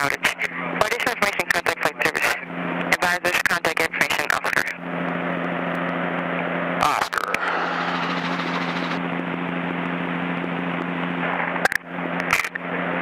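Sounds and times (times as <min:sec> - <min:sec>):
helicopter engine and rotor hum: 0:00.0 - 0:13.0.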